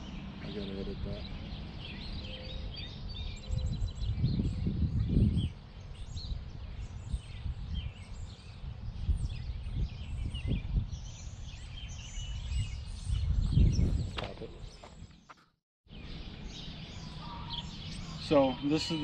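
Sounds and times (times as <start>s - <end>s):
wind rumbling on microphone: 0.0s - 15.3s
songbirds chirping: 0.0s - 19.0s.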